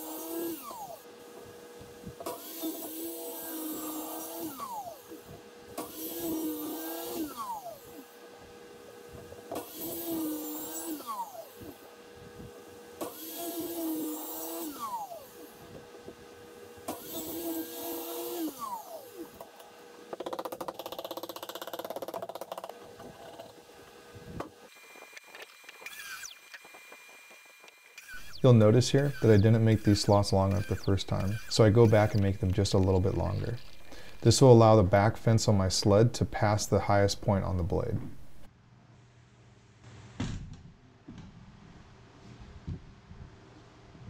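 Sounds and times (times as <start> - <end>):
track saw cutting plywood: 0.0 - 8.2, 8.9 - 11.9, 12.9 - 23.6, 24.4 - 38.5.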